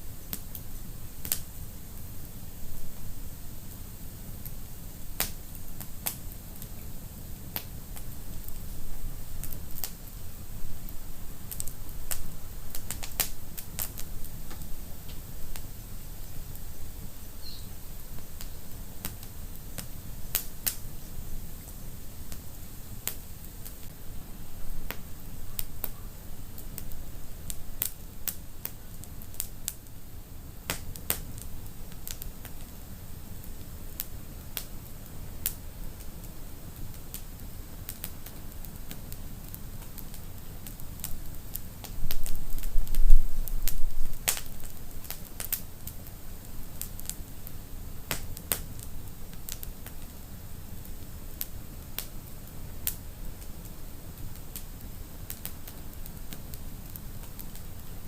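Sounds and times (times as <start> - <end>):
low rumble of flames: 0.0 - 58.0
wood fire crackling and popping: 0.1 - 24.0, 24.8 - 58.0.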